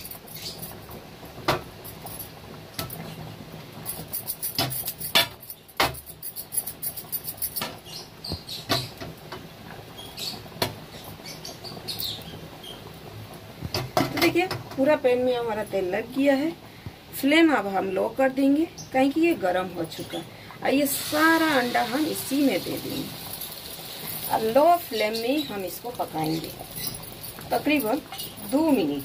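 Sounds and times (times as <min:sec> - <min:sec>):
faint steady hiss: 0:00.0 - 0:29.0
hot oil crackling and popping: 0:00.0 - 0:29.0.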